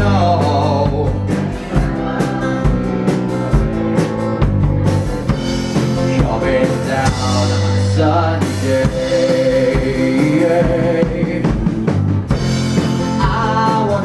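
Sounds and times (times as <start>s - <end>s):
country-rock instrumental: 0.0s - 14.0s
drum kit beat with rimshots: 0.0s - 14.0s.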